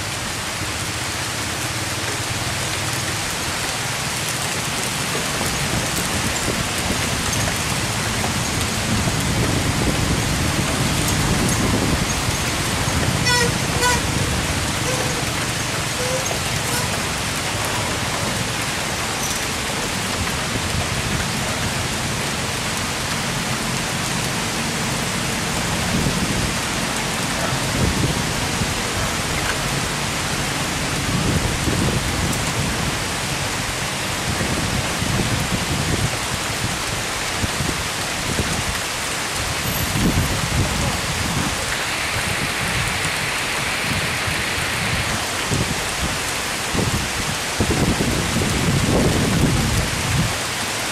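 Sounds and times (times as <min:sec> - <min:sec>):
rain falling on a forest: 0:00.0 - 0:50.9.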